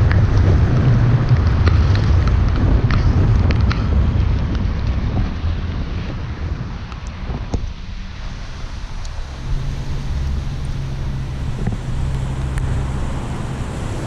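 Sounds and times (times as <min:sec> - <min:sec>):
low engine hum: 0:00.0 - 0:14.0
tyres hissing on wet road: 0:00.0 - 0:14.0.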